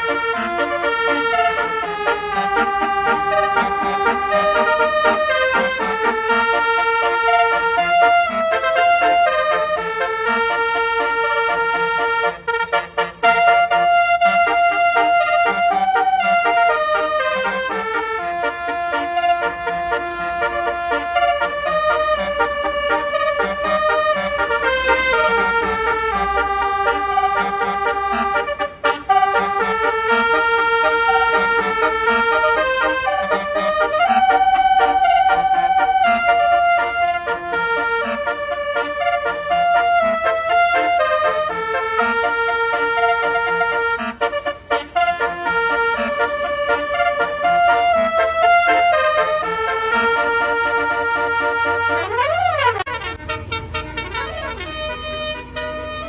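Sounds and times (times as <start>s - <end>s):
multi-tone musical bus horn: 0.0s - 56.0s.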